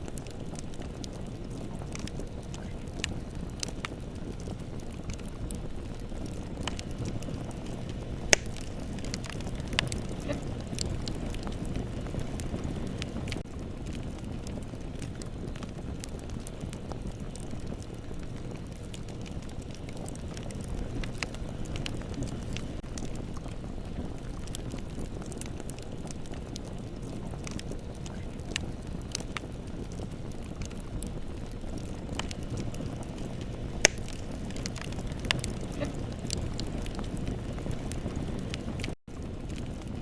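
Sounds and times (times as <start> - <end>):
fire crackles and pops: 0.0 - 40.0
low rush of flames: 0.0 - 40.0.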